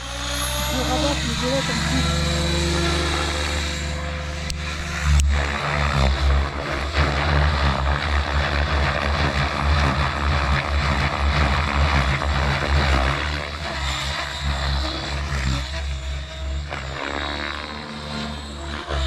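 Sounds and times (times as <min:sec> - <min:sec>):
helicopter rotor blades whooshing: 0:00.0 - 0:19.0.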